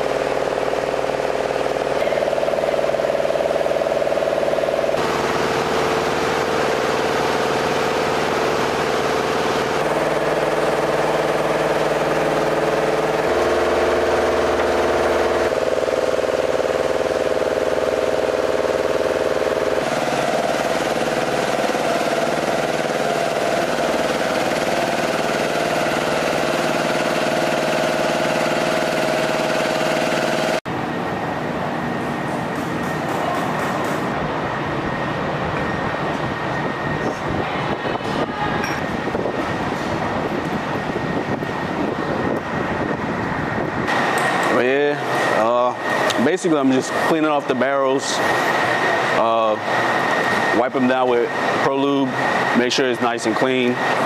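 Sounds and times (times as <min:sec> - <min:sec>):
machine hum with held tones: 0:00.0 - 0:54.0.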